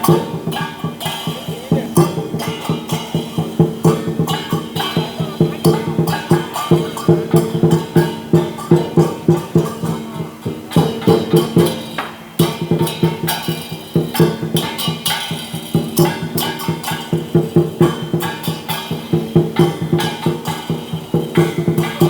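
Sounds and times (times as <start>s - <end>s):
big drum beating: 0.0s - 22.0s
crashing cymbals: 0.0s - 22.0s
ringing metal: 0.0s - 22.0s.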